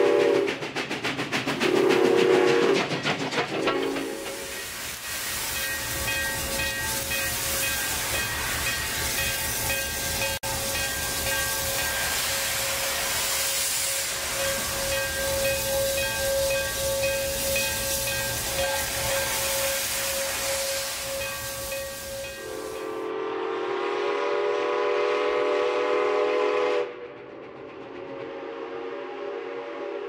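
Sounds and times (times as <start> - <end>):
steam locomotive hissing: 0.0 - 30.0.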